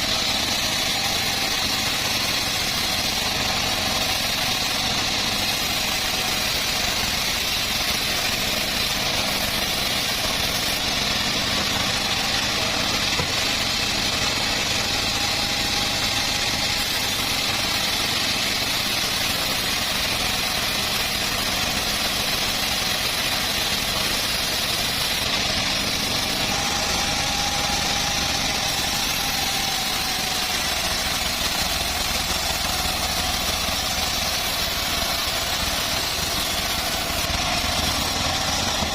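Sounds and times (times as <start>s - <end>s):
saw hissing and whining: 0.0s - 38.9s
sawmill engine running: 0.0s - 38.9s.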